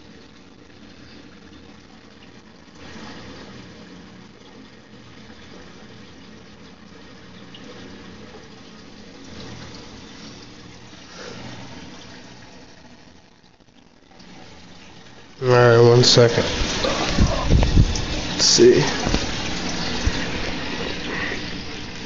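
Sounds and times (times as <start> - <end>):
low steady hum: 0.0 - 22.0
water running and splashing: 0.0 - 22.0.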